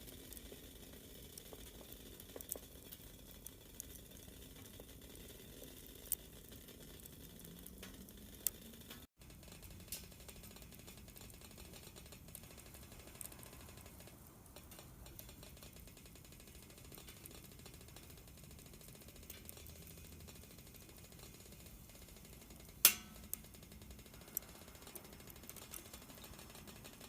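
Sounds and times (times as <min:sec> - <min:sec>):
soft steady hiss: 0:00.0 - 0:27.0
wood fire crackling: 0:00.0 - 0:27.0.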